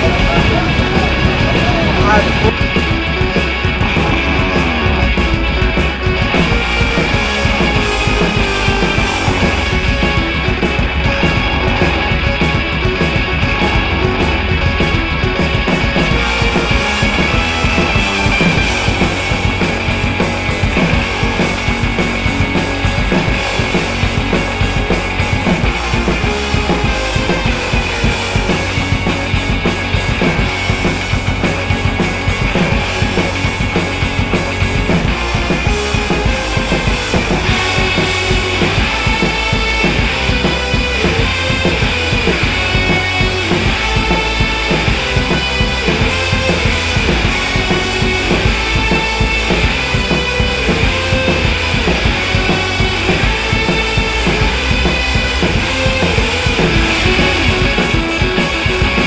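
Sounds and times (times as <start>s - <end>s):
loud rock music: 0.0s - 59.0s.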